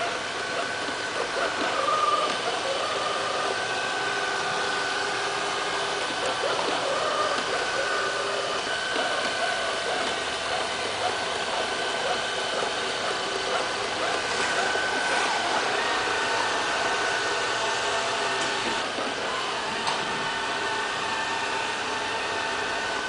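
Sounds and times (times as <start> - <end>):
robot vacuum cleaner whirring: 0.0 - 23.0.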